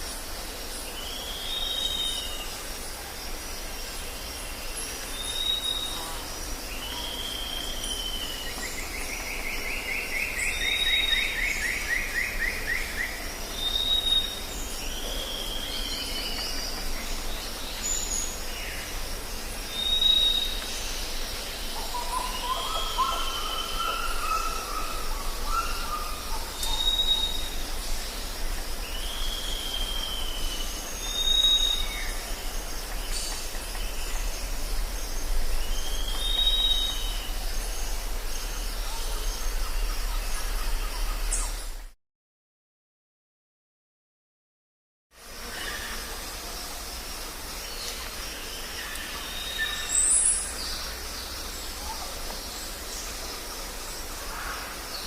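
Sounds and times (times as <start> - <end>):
high insect drone: 0.0 - 41.9, 45.2 - 55.0.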